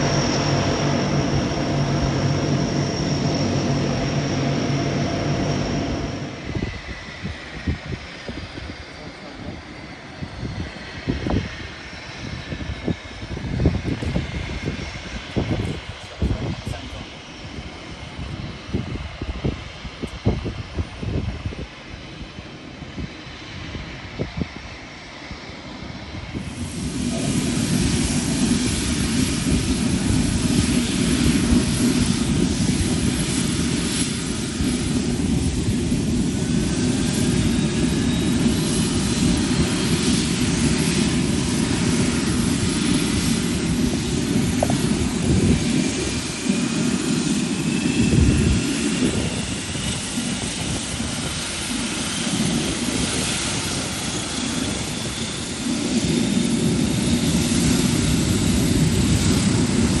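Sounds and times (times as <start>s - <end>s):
high turbine whine: 0.0s - 60.0s
propeller drone: 0.0s - 60.0s.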